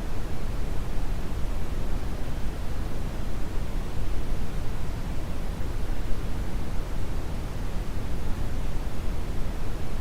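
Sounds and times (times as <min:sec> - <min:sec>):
brown noise hiss: 0:00.0 - 0:10.0.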